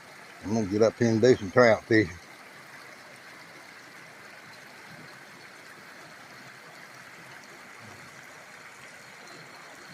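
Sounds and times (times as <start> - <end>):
creek water flowing: 0.0 - 9.9.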